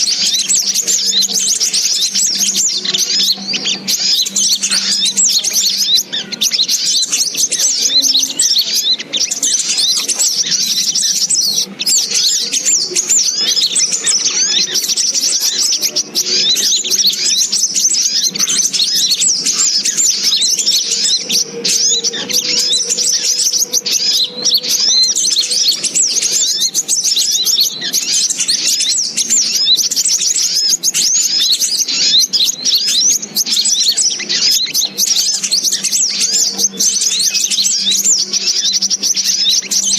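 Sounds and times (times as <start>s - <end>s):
high-pitched bird chirping: 0.0s - 39.9s.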